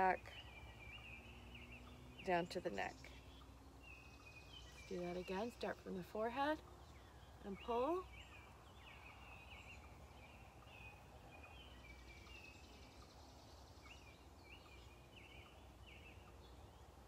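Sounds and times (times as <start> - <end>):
bird chirping: 0.0 - 17.0
faint rapid bird trill: 0.0 - 17.0
outdoor background noise: 0.0 - 17.0.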